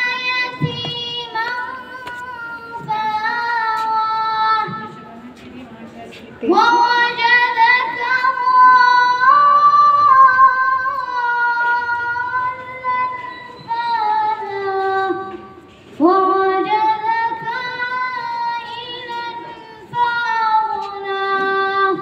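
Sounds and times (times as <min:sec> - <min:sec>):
boy singing into microphone: 0:00.0 - 0:05.5, 0:06.4 - 0:22.0.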